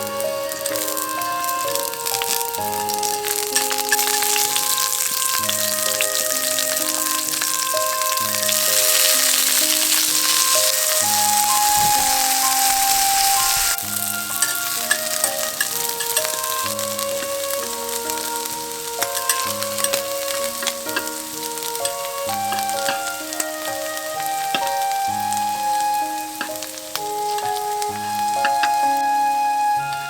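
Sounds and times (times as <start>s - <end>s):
background music: 0.0s - 30.0s
steak sizzling in a pan: 0.0s - 30.0s.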